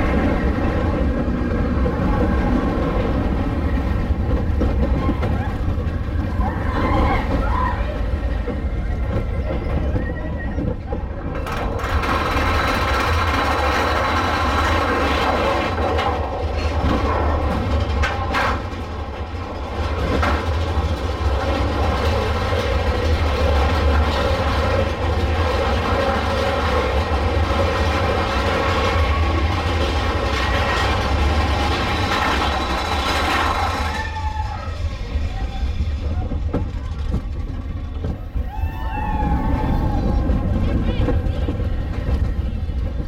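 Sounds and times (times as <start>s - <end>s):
roller coaster wheels rumbling: 0.0s - 43.0s.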